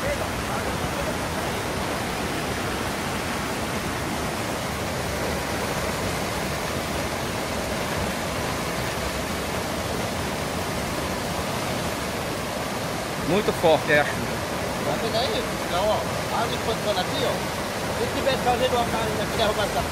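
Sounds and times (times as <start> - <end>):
floodwater rushing: 0.0 - 19.9.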